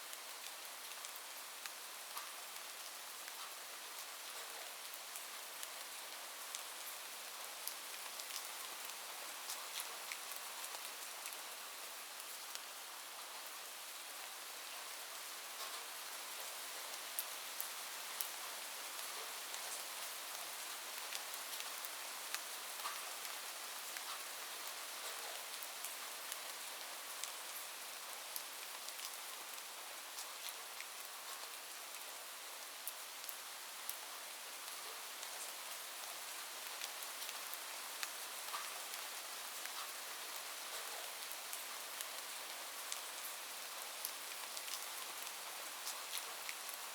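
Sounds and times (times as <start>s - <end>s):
gentle rain falling: 0.0s - 46.9s
raindrops ticking on surface: 0.1s - 13.2s, 14.6s - 46.9s.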